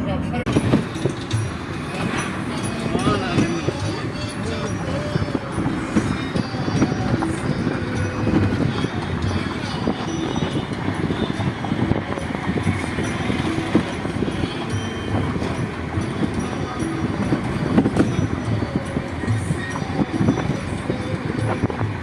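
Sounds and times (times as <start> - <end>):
moving train rumble and clatter: 0.0 - 22.0.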